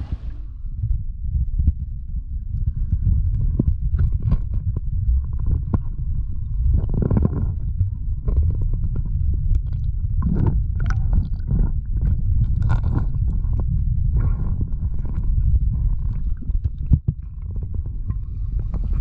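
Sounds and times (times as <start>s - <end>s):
low rumble with crackles: 0.0s - 19.0s.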